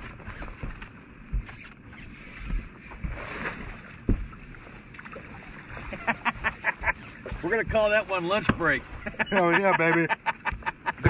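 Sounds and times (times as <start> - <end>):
knocks and bumps on boat: 0.0 - 11.0.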